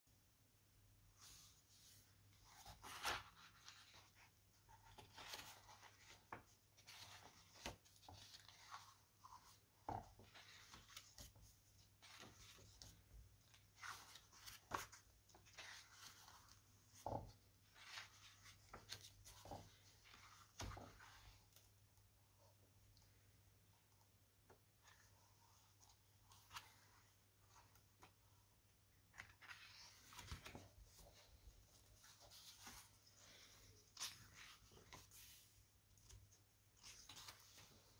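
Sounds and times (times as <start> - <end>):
book pages turning: 1.2 - 21.8, 24.8 - 37.9.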